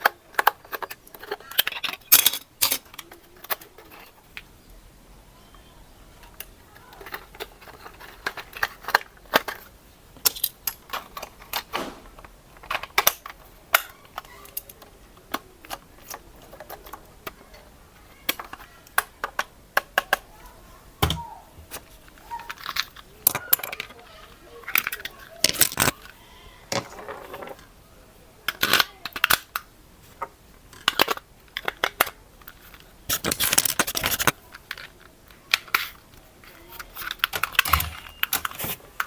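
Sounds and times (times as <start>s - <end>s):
hard plastic clicking and tapping: 0.0s - 4.5s, 5.6s - 27.7s, 28.4s - 39.0s.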